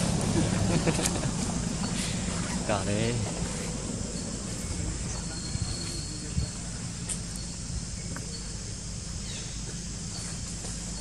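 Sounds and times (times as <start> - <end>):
insect chirring: 1.5 - 11.0.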